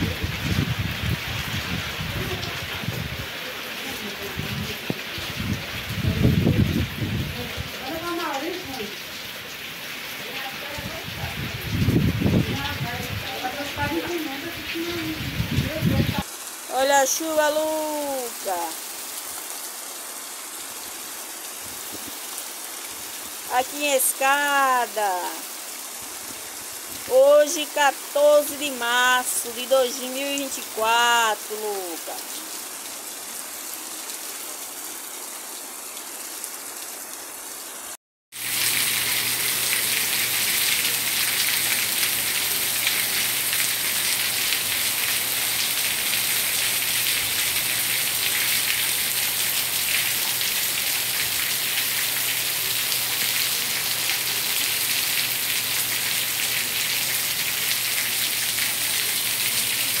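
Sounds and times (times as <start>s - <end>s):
heavy rain on roofs and paving: 0.0s - 60.0s.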